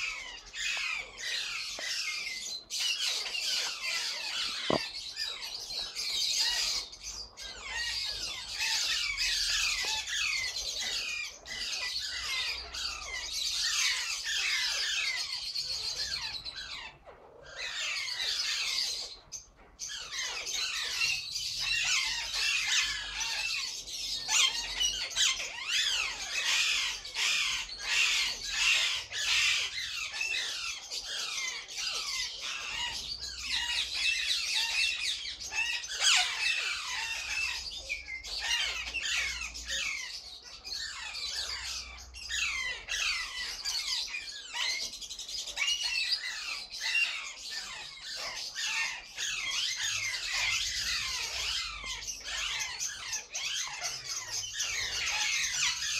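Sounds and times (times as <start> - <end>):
parakeets squawking: 0.0 - 19.1, 19.8 - 55.9.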